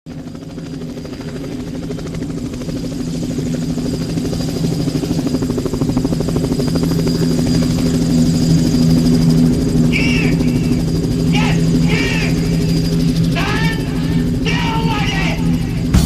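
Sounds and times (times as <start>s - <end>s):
helicopter engine hum: 0.1s - 16.0s
helicopter rotor chopping: 0.1s - 16.0s.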